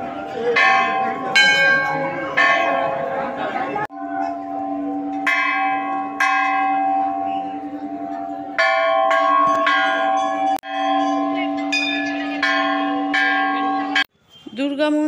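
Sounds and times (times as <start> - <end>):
large brass bell ringing: 0.1 - 14.1.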